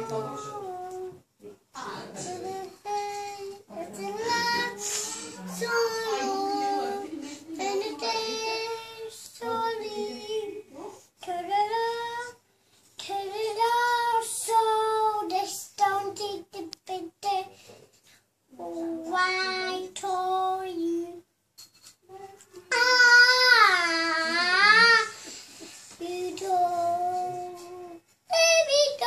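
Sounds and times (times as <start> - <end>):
toddler singing: 0.0 - 1.2, 2.2 - 10.6, 11.2 - 12.4, 13.0 - 17.5, 18.8 - 21.2, 22.2 - 25.2, 26.0 - 29.0.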